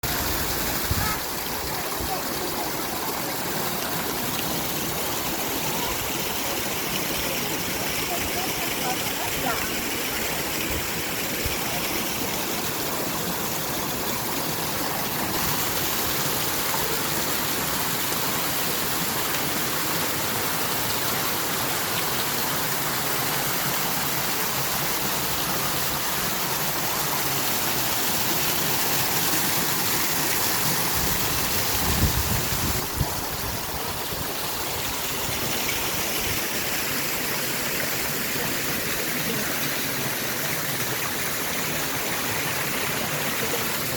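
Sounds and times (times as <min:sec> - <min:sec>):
fountain water splashing: 0:00.0 - 0:43.9.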